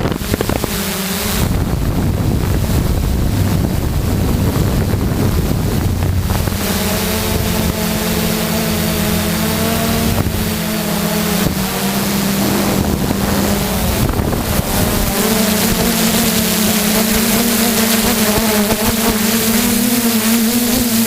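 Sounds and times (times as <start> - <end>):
steady motor hum: 0.0 - 21.0
wind buffeting microphone: 0.0 - 21.0.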